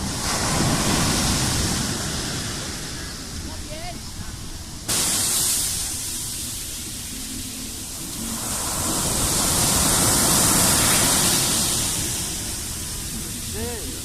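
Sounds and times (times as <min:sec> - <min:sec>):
sea waves rushing: 0:00.0 - 0:14.0.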